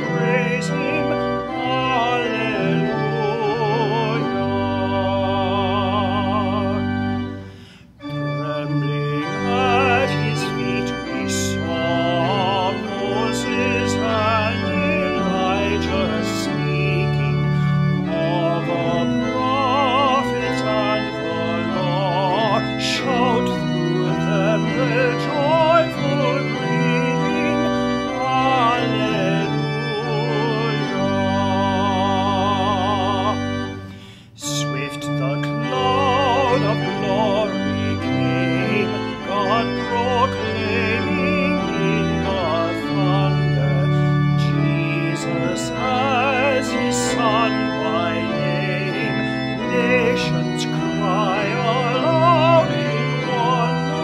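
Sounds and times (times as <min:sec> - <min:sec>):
church organ chords: 0:00.0 - 0:54.0
man singing a hymn: 0:00.0 - 0:54.0.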